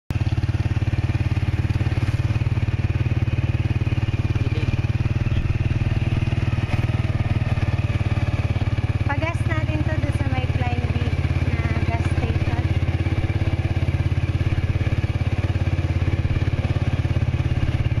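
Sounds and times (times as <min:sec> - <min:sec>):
small motorbike engine running: 0:00.1 - 0:18.0.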